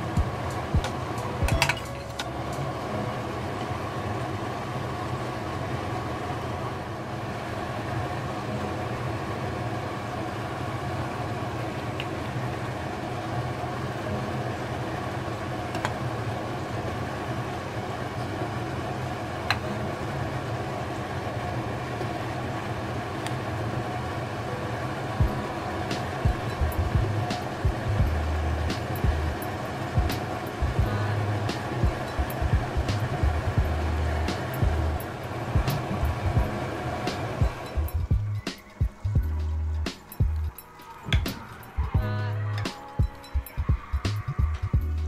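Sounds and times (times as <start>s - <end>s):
constant tones: 0.0s - 45.0s
steady rushing hum: 0.0s - 45.0s.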